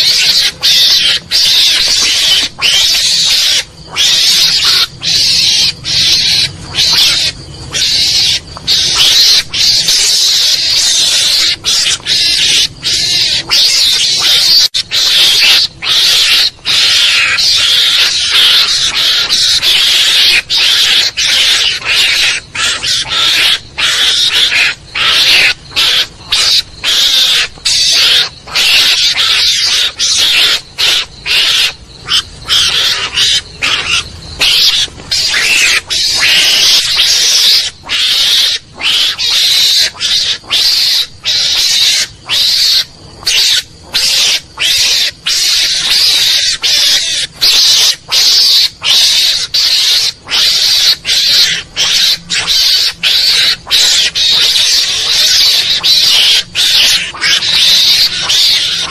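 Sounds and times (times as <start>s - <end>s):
harsh hissing animal screech: 0.0s - 58.9s.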